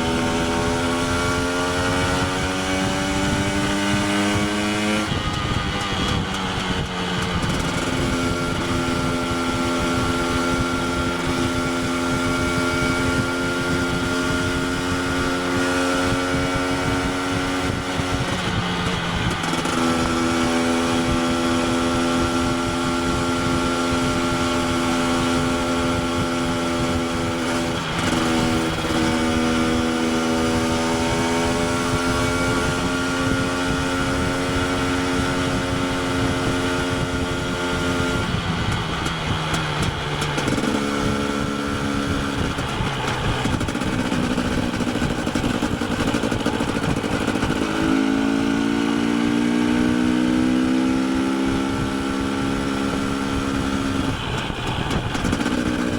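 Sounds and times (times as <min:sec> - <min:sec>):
two-stroke motorcycle engine running: 0:00.0 - 0:55.9.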